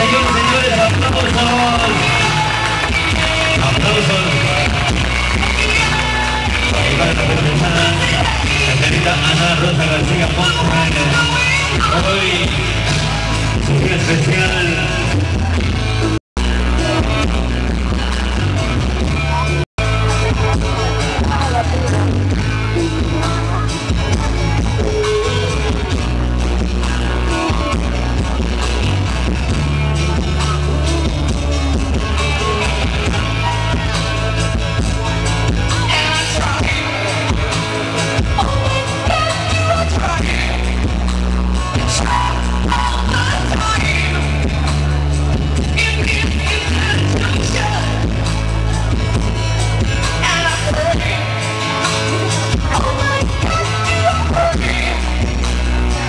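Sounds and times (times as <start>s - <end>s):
dance music with singing: 0.0s - 56.0s.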